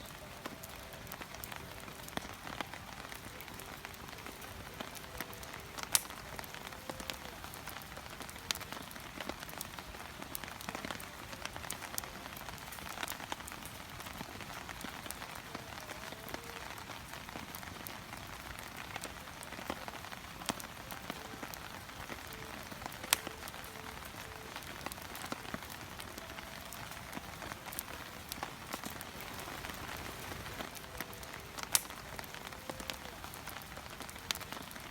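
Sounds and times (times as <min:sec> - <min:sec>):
wood fire crackling: 0:00.0 - 0:34.9
sharp fire pops: 0:00.2 - 0:34.9.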